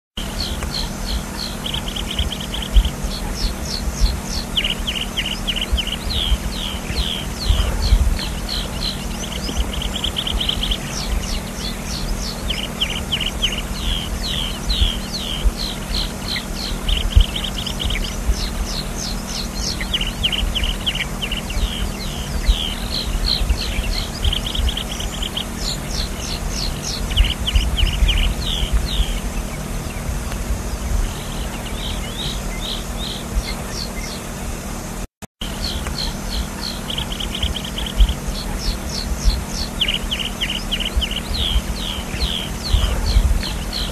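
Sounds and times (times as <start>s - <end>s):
bird singing trills: 0.2s - 34.3s, 35.4s - 43.9s
low rumbling background: 0.2s - 43.9s.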